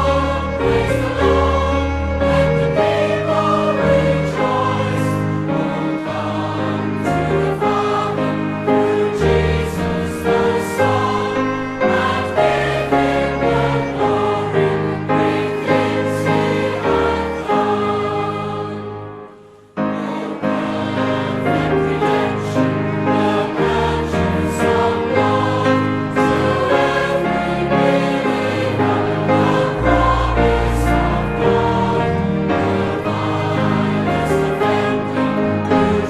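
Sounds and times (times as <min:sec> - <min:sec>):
choir singing a hymn: 0:00.0 - 0:36.0.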